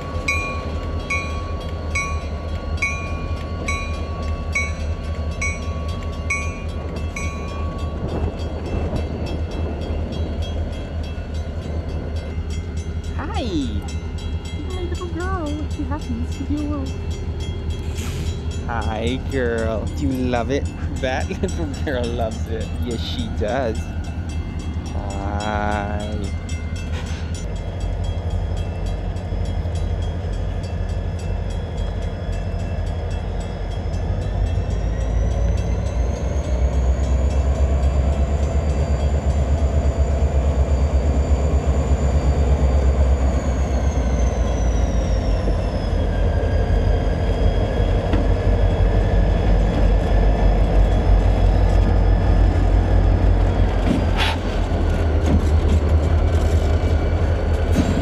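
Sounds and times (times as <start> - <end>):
locomotive engine rumble: 0.0 - 58.0.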